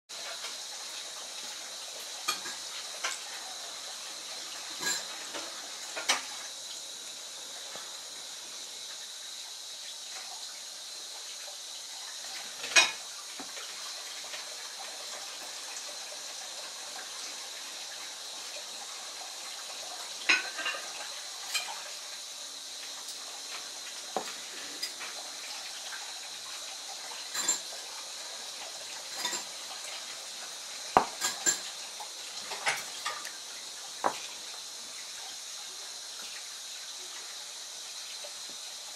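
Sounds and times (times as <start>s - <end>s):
faint hiss with high tone: 0.2s - 38.9s.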